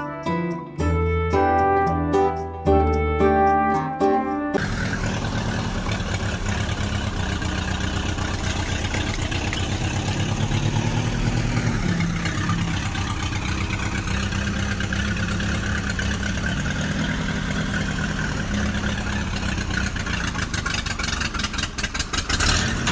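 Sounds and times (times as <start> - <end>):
mini tractor engine humming: 4.6 - 22.9.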